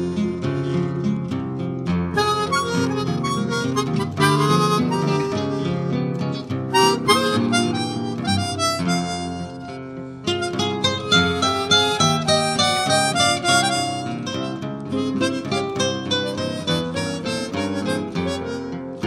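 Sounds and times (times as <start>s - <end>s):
melody over plucked accompaniment: 2.2s - 19.0s.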